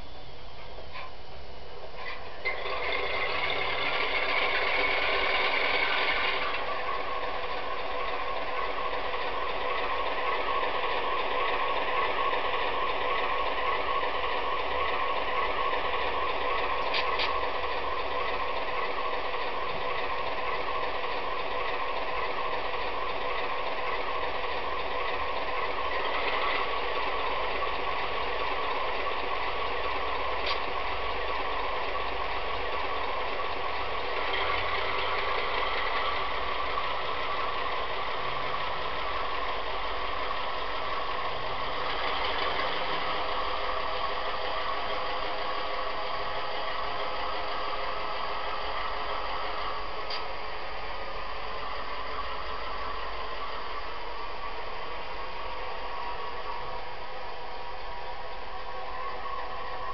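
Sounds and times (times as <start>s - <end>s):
diesel engine sound from speaker: 0.0s - 59.9s.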